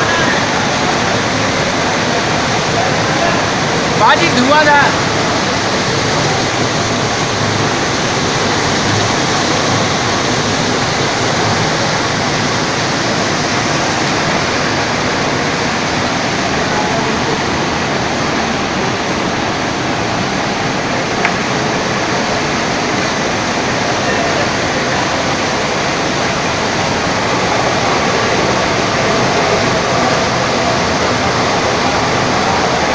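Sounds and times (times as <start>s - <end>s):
sump pump water rushing: 0.0s - 32.9s.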